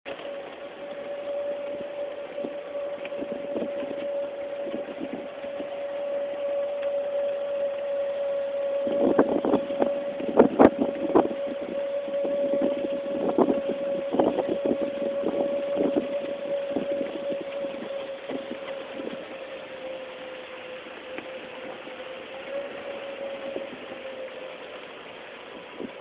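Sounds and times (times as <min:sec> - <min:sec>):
golf cart drive whine: 0:00.0 - 0:26.0.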